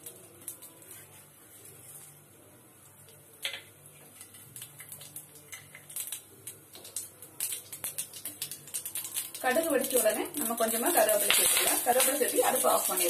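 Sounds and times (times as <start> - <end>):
seeds frying in hot oil: 0.0 - 13.0.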